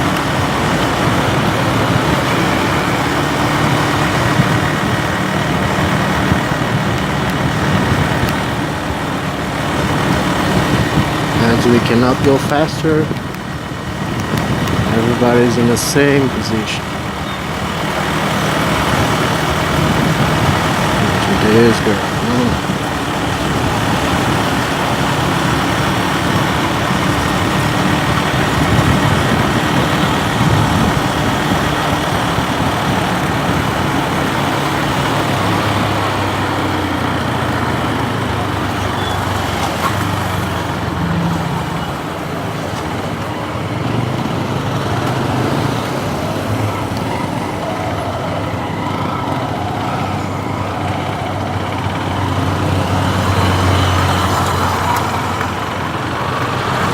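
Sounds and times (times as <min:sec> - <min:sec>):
motorcycle engine running: 0:00.0 - 0:56.9
traffic noise: 0:00.0 - 0:56.9.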